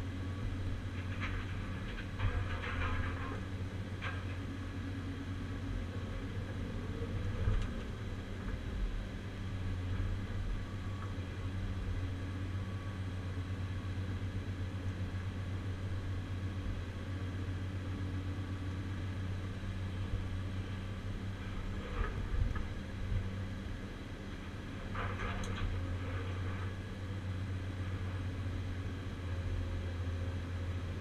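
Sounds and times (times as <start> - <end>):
diesel engine hum: 0.0 - 31.0.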